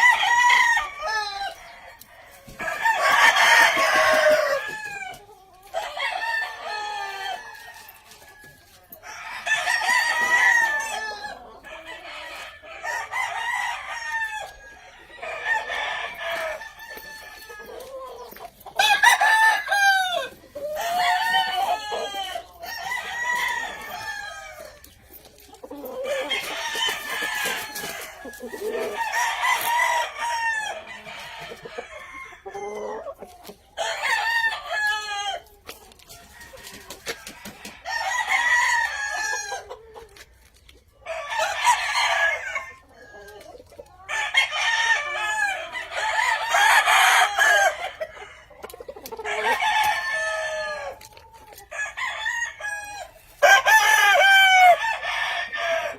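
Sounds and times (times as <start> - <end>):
roosters crowing: 0.0 - 40.3, 40.9 - 55.9.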